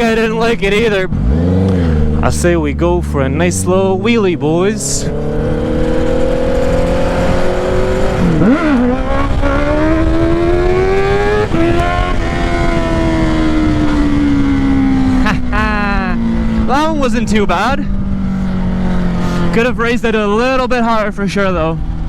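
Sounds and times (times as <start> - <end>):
motorcycle engine accelerating hard: 0.0 - 22.0.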